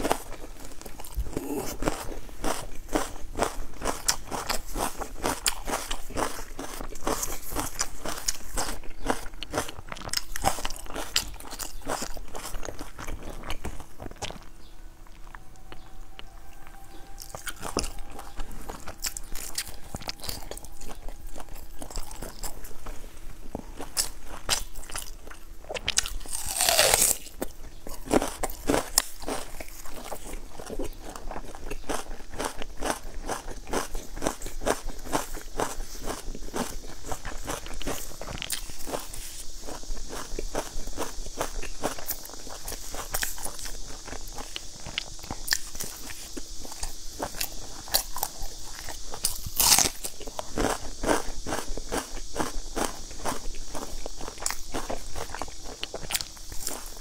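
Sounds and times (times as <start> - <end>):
crunching and chewing flatbread: 0.0 - 57.0.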